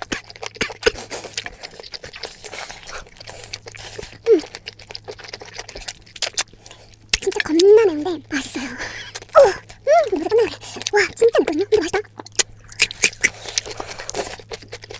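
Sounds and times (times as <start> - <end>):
chewing: 0.0 - 14.9.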